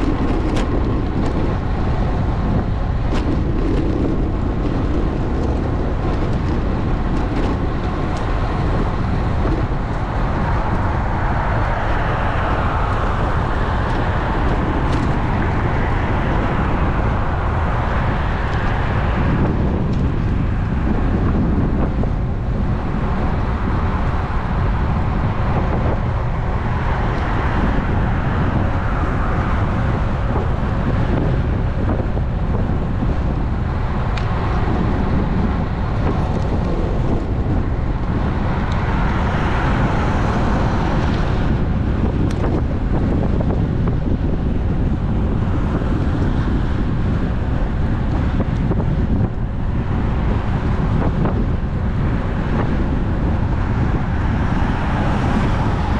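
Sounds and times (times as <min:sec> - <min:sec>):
road and traffic noise: 0:00.0 - 0:55.9
wind on microphone: 0:00.0 - 0:55.9.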